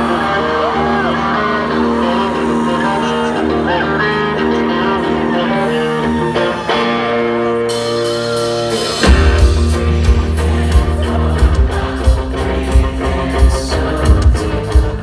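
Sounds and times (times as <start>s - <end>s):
rock band playing: 0.0s - 15.0s
strummed guitar chords: 0.0s - 15.0s.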